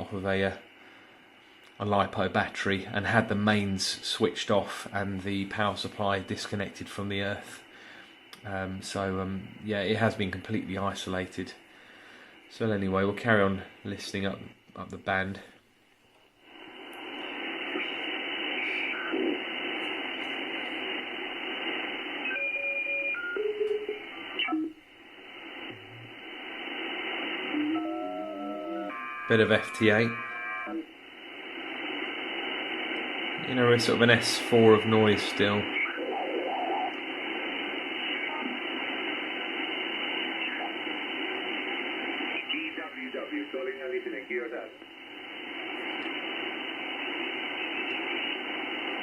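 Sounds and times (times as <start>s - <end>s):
short steady radio tones: 0.0s - 15.5s, 16.4s - 49.0s
radio band noise hiss: 0.0s - 15.7s, 16.3s - 49.0s.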